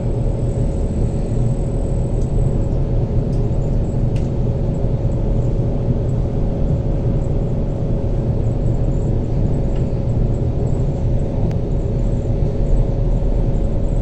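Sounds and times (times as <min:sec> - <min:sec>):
train rumbling from inside carriage: 0:00.0 - 0:14.0.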